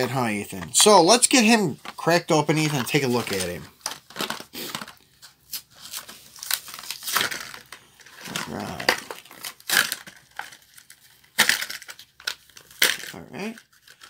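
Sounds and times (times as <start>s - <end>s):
plastic blister crinkling: 0.0s - 14.0s
cardboard tearing: 2.7s - 14.0s.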